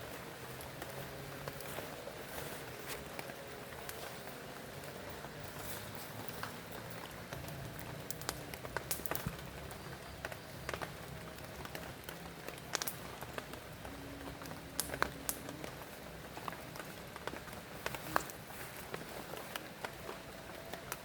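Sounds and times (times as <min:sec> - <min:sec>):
raindrops ticking on surface: 0:00.0 - 0:21.0
steady rain falling: 0:00.0 - 0:21.0.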